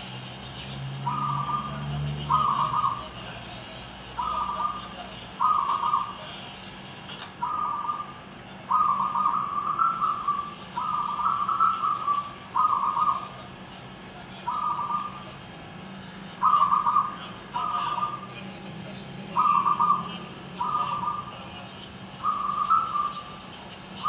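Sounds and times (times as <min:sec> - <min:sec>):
doves cooing: 0:00.9 - 0:03.3, 0:04.1 - 0:06.3, 0:07.4 - 0:18.4, 0:19.0 - 0:24.0.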